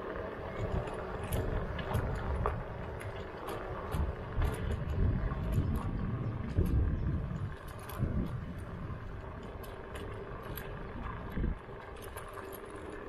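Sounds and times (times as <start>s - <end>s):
wind rumble on microphone: 0.0s - 13.0s
light clicks and rattles: 0.5s - 13.0s.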